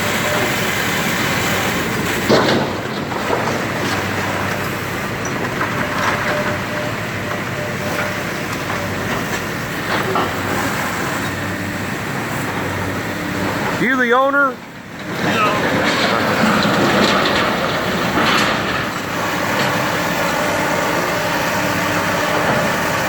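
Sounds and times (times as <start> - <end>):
demolition machinery running: 0.0 - 23.0.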